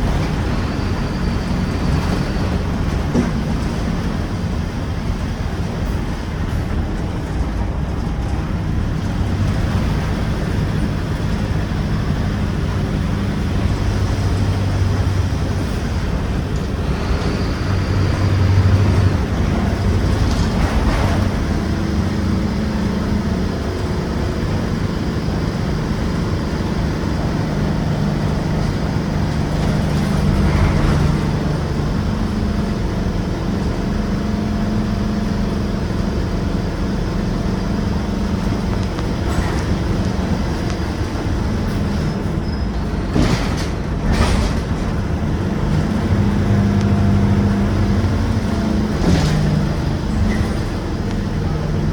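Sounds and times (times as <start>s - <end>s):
bus diesel engine running: 0.0s - 51.9s.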